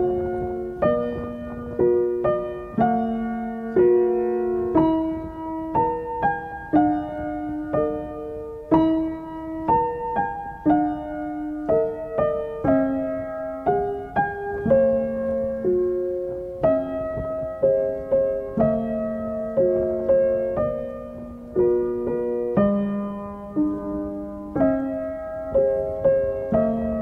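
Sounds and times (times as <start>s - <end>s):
slow gentle piano music: 0.0s - 27.0s.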